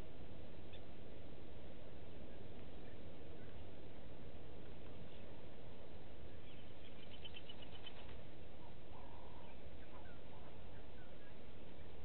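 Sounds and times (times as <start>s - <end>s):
low background hiss: 0.0s - 12.0s
birds chirping: 0.5s - 1.3s, 2.0s - 12.0s.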